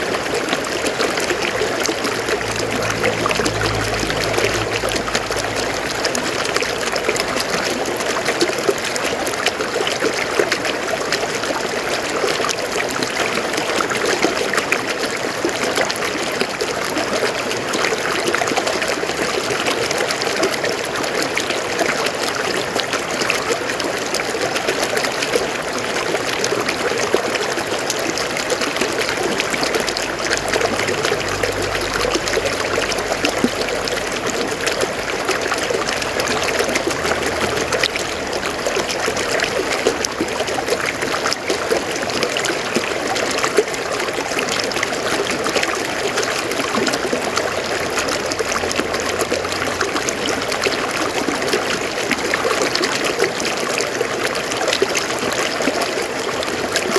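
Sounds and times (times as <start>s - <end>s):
river flowing over rocks: 0.0s - 56.9s.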